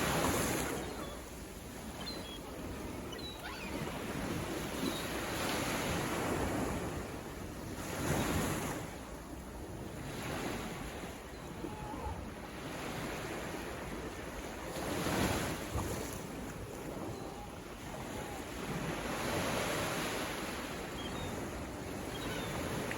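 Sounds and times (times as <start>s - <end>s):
ocean waves breaking on shore: 0.0s - 22.9s.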